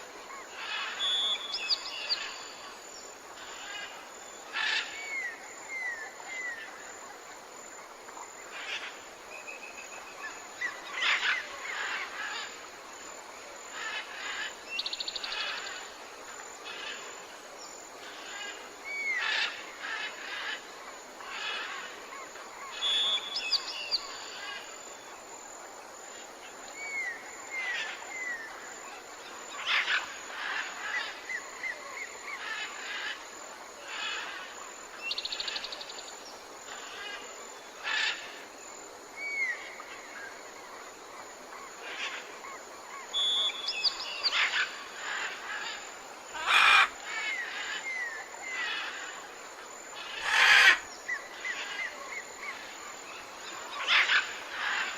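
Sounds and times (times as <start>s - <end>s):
forest ambience hiss: 0.0s - 54.9s.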